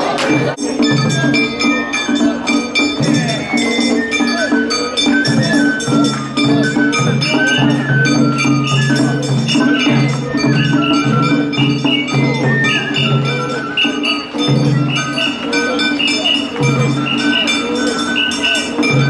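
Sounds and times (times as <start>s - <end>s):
high melody: 0.0s - 19.0s
percussion beat: 0.0s - 19.0s.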